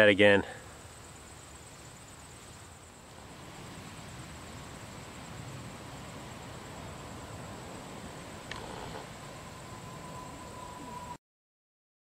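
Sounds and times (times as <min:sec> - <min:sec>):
insect trilling: 0:00.0 - 0:11.2
soft even hiss: 0:00.0 - 0:11.2.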